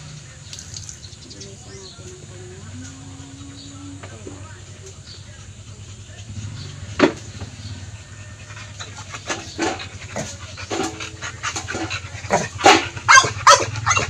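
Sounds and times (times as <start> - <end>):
dog panting: 1.1 - 14.0.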